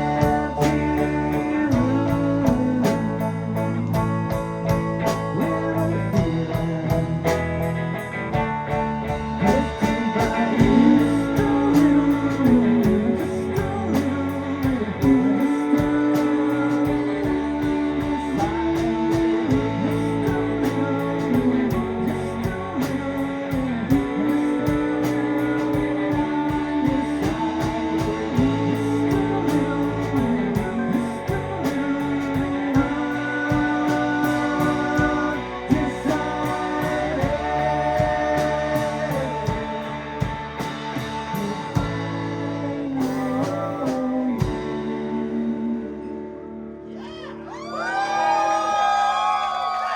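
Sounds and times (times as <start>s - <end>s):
drums hi-hat beat: 0.0s - 42.3s
bending guitar melody: 0.0s - 47.7s
live rock band playing: 0.0s - 49.9s.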